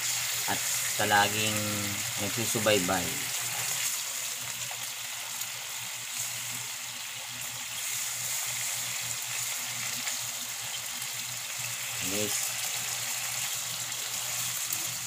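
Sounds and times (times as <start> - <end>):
fish sizzling in a frying pan: 0.0 - 15.0.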